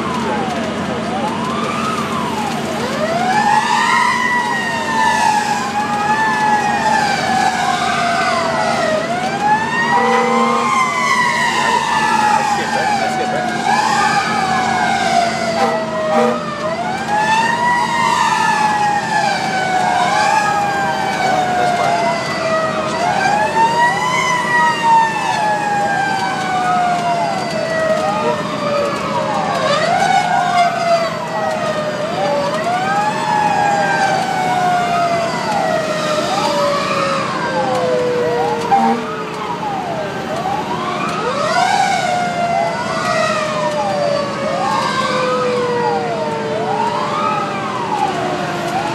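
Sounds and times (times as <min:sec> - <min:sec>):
low sliding siren tone: 0:00.0 - 0:48.9
rising and falling siren: 0:00.0 - 0:48.9.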